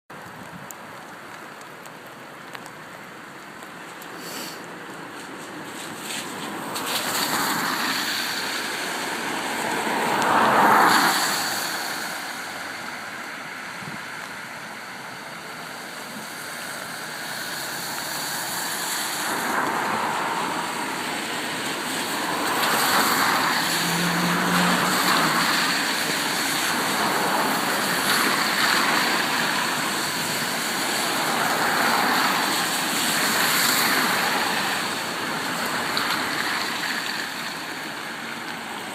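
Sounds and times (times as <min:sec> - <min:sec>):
cars driving through floodwater: 0:00.2 - 0:38.9.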